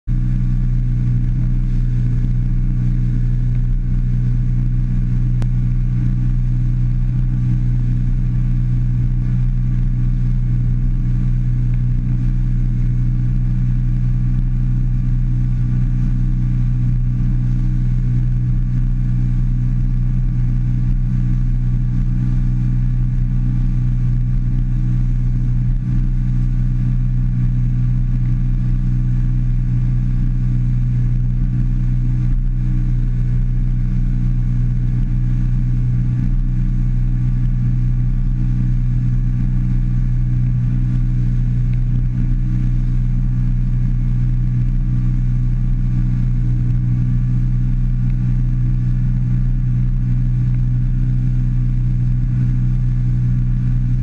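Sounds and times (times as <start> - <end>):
outboard motor droning: 0.1 - 54.0.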